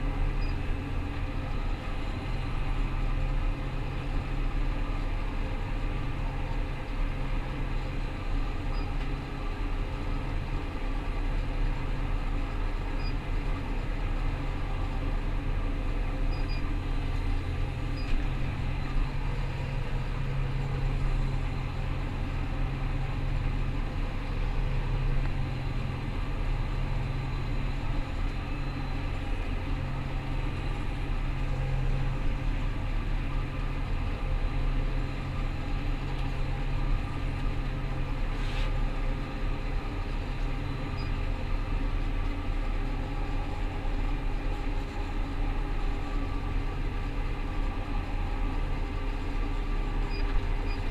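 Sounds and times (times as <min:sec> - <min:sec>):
combine harvester drone: 0:00.0 - 0:50.9.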